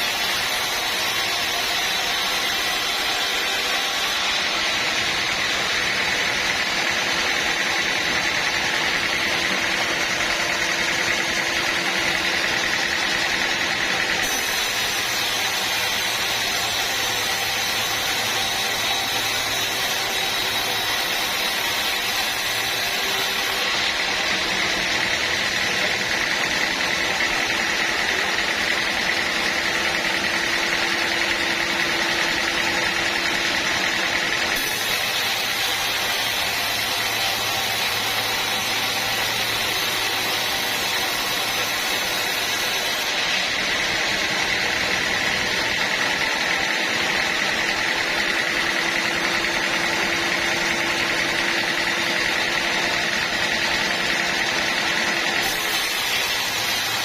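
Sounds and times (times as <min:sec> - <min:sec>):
sawmill sawing a log: 0:00.0 - 0:57.0.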